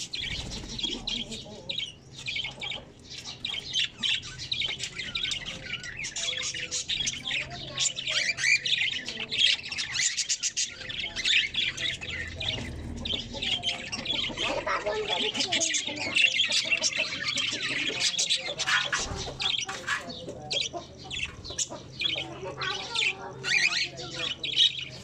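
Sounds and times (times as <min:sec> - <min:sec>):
birds chirping and squawking: 0:00.0 - 0:25.0.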